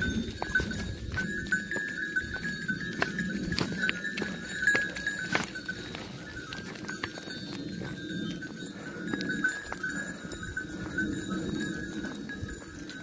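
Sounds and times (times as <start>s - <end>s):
sheep hooves shuffling: 0.0s - 13.0s
small bells tinkling: 0.0s - 13.0s.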